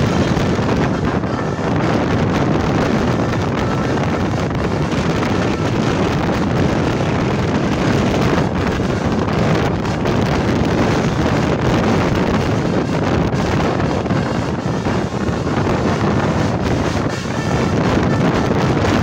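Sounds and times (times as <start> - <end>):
car road noise: 0.0 - 19.0
wind buffeting microphone: 0.0 - 19.0.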